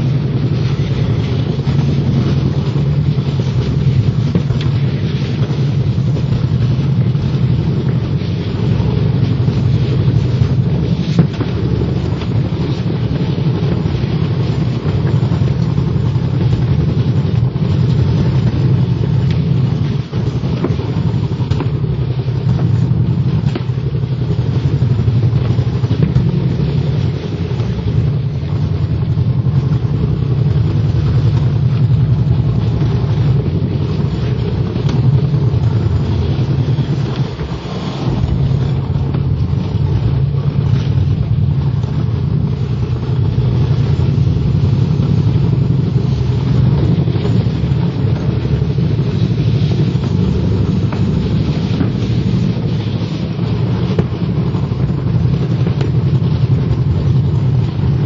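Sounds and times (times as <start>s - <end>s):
sled rumbling on concrete track: 0.0s - 58.0s.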